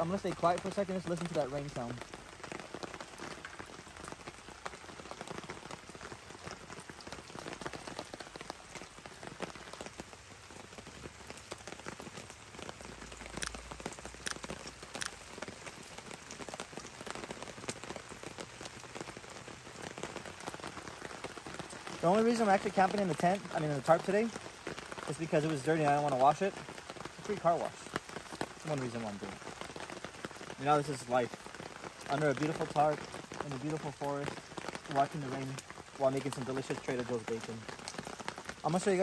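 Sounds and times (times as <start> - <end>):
rain on a tarp: 0.0 - 39.0.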